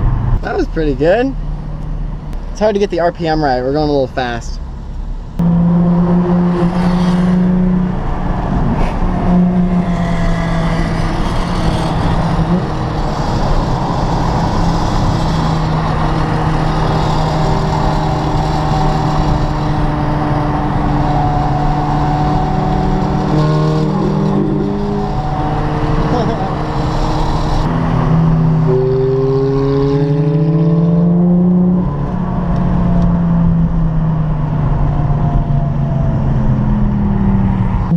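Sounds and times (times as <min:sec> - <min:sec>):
road noise: 0:00.0 - 0:37.9
car engine drone in cabin: 0:04.6 - 0:37.9.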